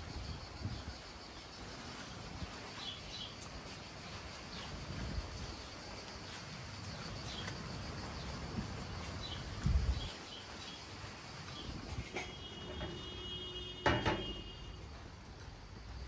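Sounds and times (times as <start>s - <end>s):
wind rumble on microphone: 0.0s - 13.2s
insect drone: 0.0s - 16.0s.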